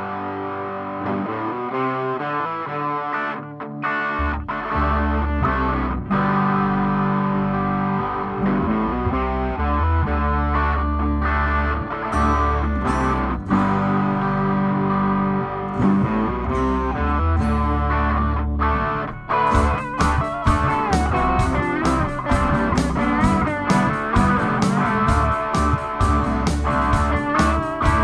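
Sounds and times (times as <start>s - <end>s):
rock music with distorted guitar: 0.0s - 28.0s
steady bass line: 3.9s - 28.0s.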